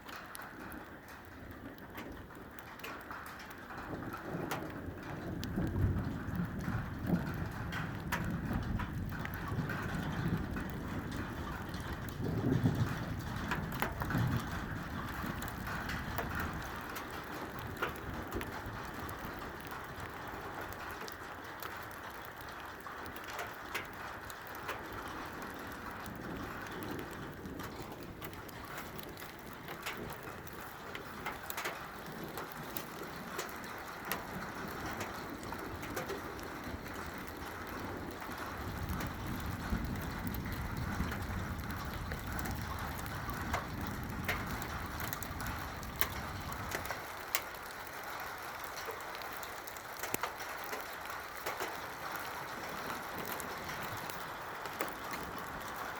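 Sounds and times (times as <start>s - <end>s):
drips ticking on hard surfaces: 0.0s - 55.9s
steady rain falling: 0.0s - 55.9s.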